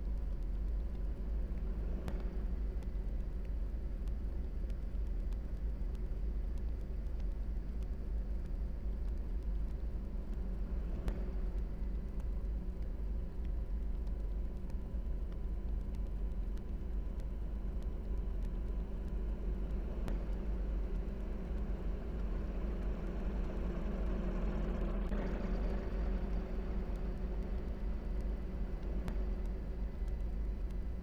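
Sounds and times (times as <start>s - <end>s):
faint constant tone: 0.0s - 31.0s.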